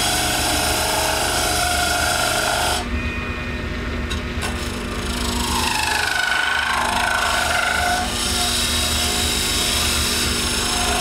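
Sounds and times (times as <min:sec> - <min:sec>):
chisel cutting with shrill squeal: 0:00.0 - 0:02.9, 0:04.7 - 0:11.0
wood lathe running: 0:00.0 - 0:02.9, 0:04.6 - 0:11.0.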